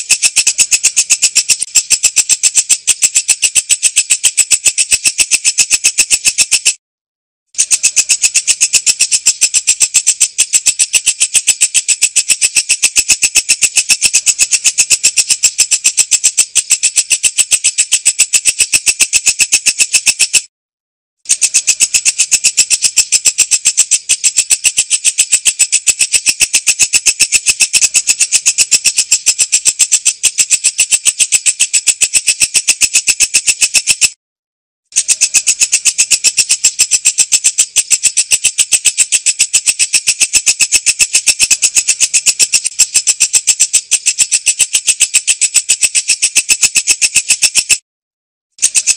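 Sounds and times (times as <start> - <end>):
insect rasping trill: 0.0 - 6.8, 7.6 - 20.5, 21.3 - 34.2, 35.0 - 47.8, 48.6 - 48.9.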